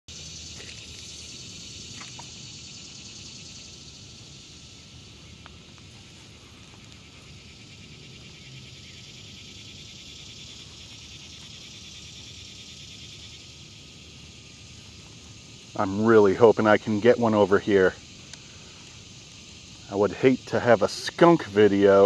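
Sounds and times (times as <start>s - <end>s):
faint steady tone: 0.1s - 22.0s
insects droning: 0.1s - 22.0s.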